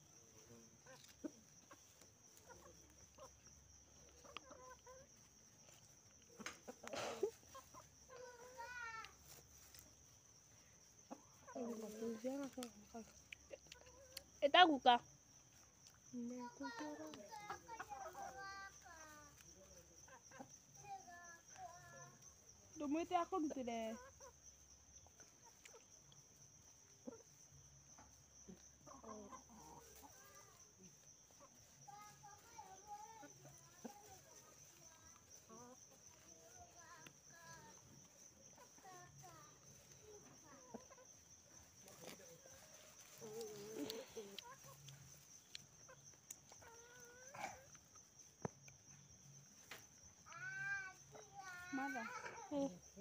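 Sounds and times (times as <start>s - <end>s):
faint chicken clucking: 0.0s - 14.4s, 15.0s - 53.0s.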